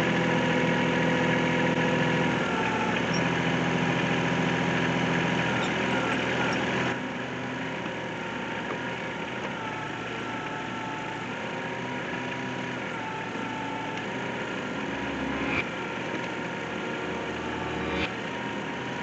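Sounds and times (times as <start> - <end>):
diesel engine running: 0.0 - 19.0
faint wavering whine: 0.0 - 19.0.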